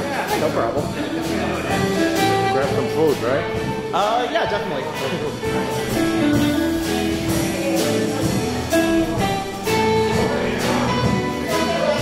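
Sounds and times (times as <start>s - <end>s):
bass guitar: 0.0s - 12.0s
drum kit beat: 0.0s - 12.0s
electric guitars playing melody: 0.0s - 12.0s.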